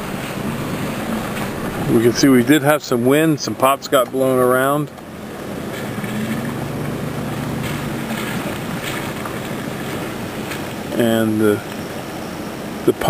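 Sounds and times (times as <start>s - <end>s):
creek water rushing: 0.0s - 13.0s
faint vehicle engine humming: 0.0s - 13.0s.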